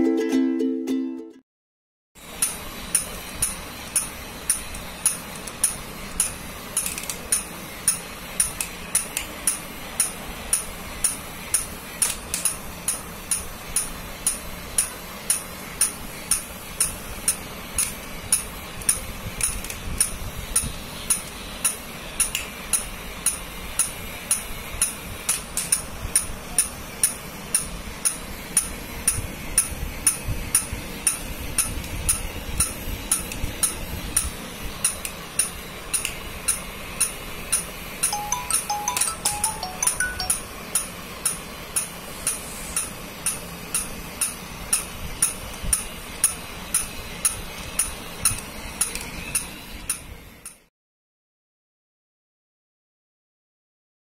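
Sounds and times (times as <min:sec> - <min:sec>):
toy motor hum: 0:02.4 - 0:50.6
toy mechanism clicking: 0:02.4 - 0:50.7.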